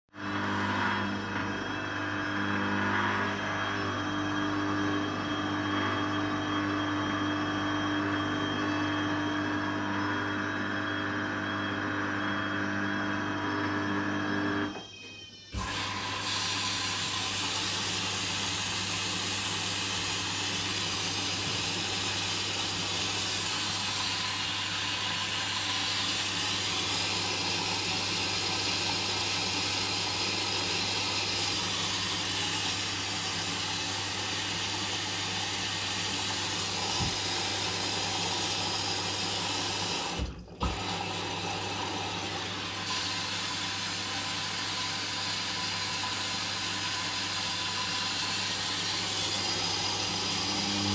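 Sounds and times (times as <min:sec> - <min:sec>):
water rushing into washing machine: 0:00.1 - 0:50.9.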